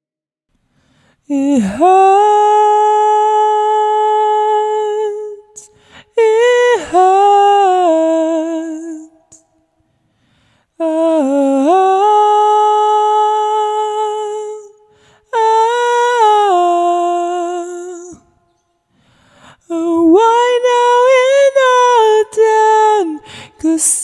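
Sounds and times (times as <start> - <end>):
man singing wordless vocalise: 1.2 - 9.7, 10.7 - 18.5, 19.2 - 24.0.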